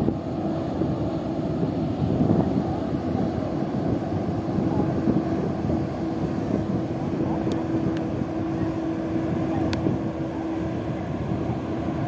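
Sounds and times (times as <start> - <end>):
ship passing low drone: 0.0 - 12.0.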